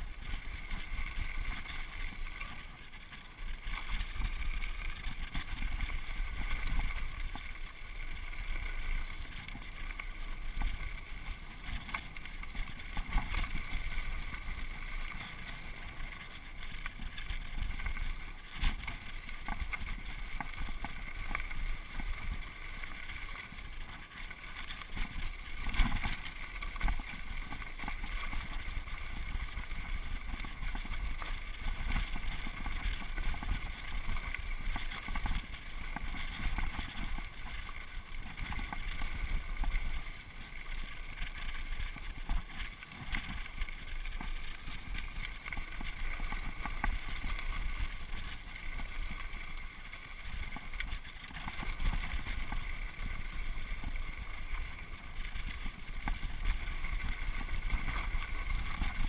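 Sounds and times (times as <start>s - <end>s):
bike knocking and rattling: 0.0s - 59.0s.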